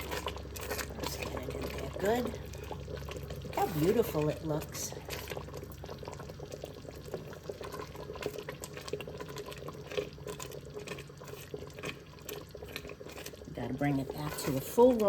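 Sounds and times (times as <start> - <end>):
jam bubbling and popping: 0.0 - 15.0.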